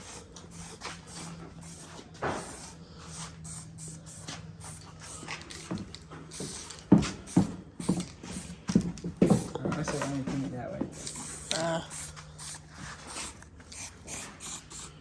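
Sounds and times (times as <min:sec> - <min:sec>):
spray paint can hissing: 0:00.0 - 0:10.2, 0:10.9 - 0:15.0
steady low hum: 0:00.0 - 0:15.0.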